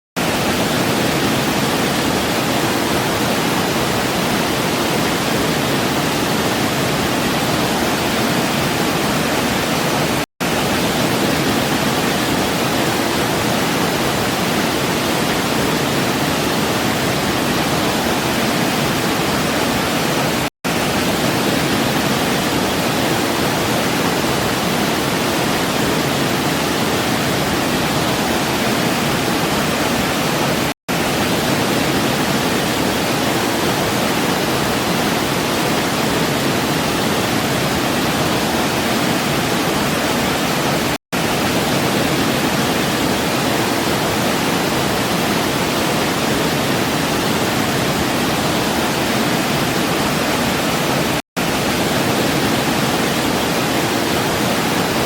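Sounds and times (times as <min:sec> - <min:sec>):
waterfall rushing: 0:00.2 - 0:55.0.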